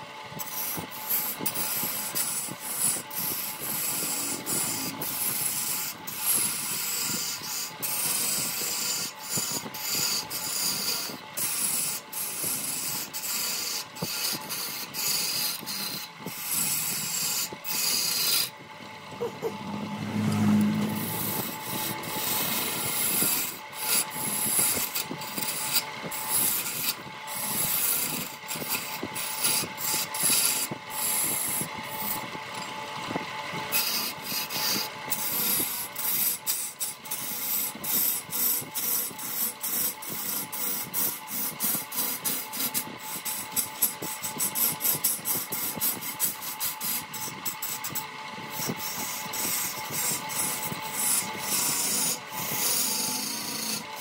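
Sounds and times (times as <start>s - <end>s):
tool scraping spinning wood: 0.0s - 54.0s
wood lathe motor whine: 0.0s - 54.0s.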